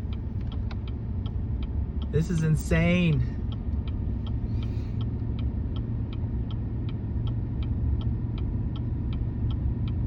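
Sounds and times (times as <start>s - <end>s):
engine and road rumble: 0.0s - 10.0s
light even ticking: 0.0s - 10.0s.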